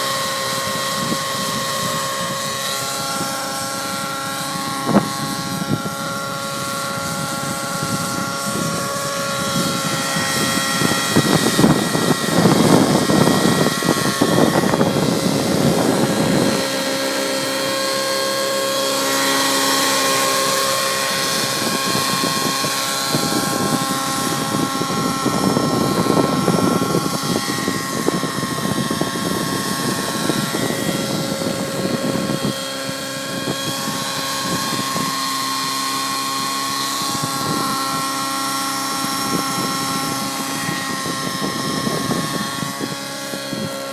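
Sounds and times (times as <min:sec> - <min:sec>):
model helicopter engine whine: 0:00.0 - 0:43.9
wind on microphone: 0:00.0 - 0:43.9.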